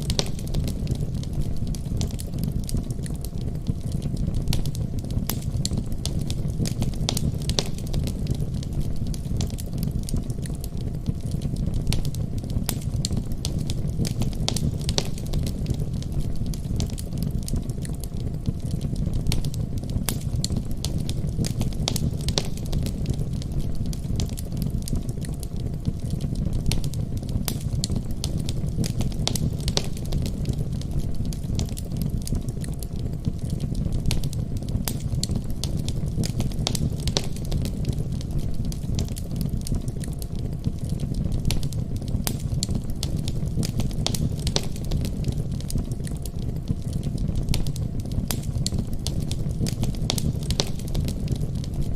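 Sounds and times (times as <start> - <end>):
fire crackling and popping: 0.0 - 51.9.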